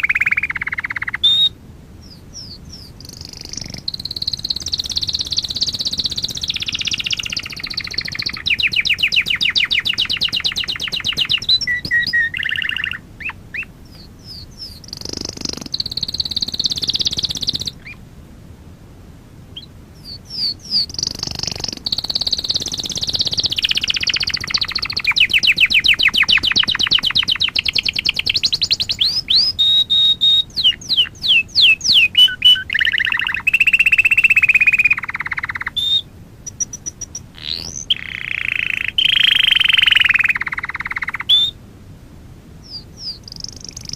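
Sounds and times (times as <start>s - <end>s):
canary singing: 0.0s - 18.0s, 19.6s - 41.6s, 42.6s - 43.9s.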